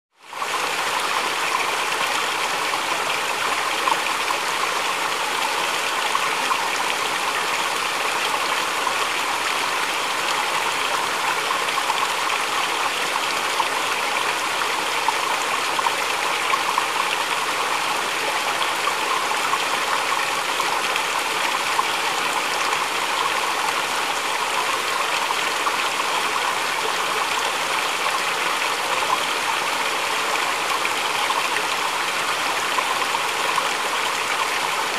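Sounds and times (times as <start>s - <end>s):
stream babbling: 0.2s - 34.9s.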